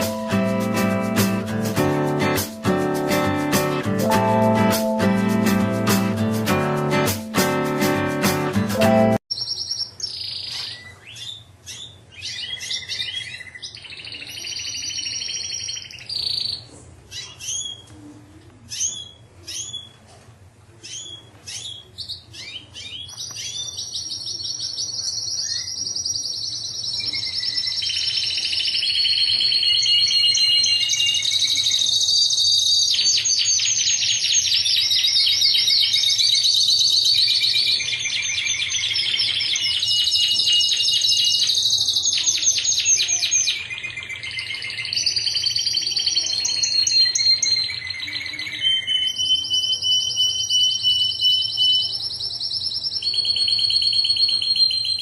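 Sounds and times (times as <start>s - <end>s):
canary singing: 0.0s - 17.9s, 20.8s - 55.0s.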